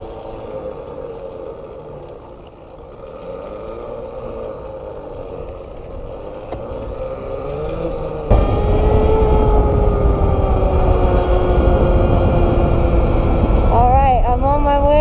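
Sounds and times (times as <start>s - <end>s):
small bike motor whining: 0.0s - 15.0s.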